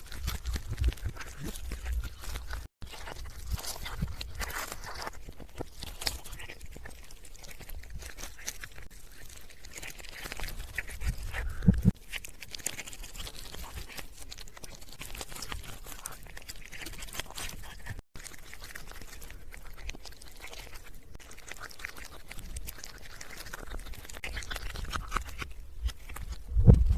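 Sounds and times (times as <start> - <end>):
cat chewing and crunching: 0.0 - 26.9.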